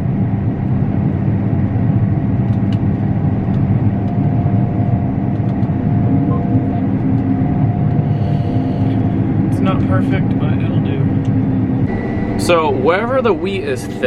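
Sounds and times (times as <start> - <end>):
combine harvester droning: 0.0 - 14.0
faint steady whine: 0.0 - 14.0.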